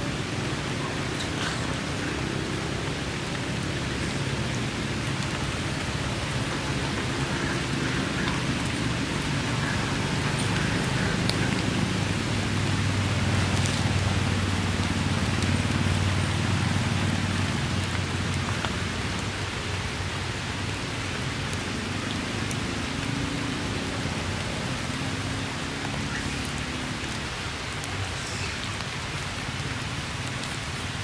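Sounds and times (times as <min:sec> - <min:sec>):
close raindrop ticks: 0:00.0 - 0:31.0
steady rain falling: 0:00.0 - 0:31.0.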